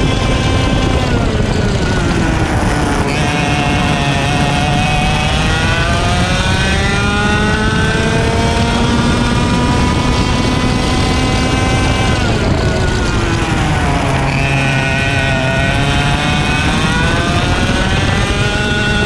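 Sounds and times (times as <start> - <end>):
kart engine revving: 0.0 - 19.0
wind rush: 0.0 - 19.0.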